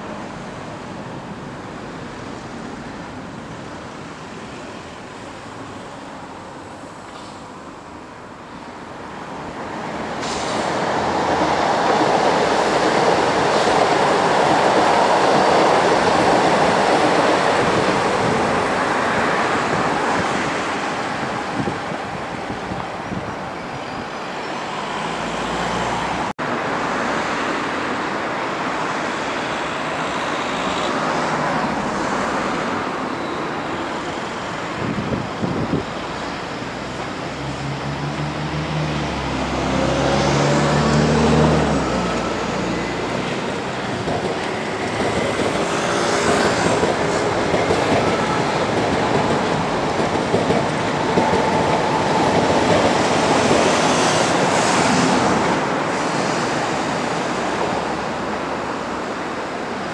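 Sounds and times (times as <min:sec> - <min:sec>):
electric trains running past: 0:00.0 - 0:59.9.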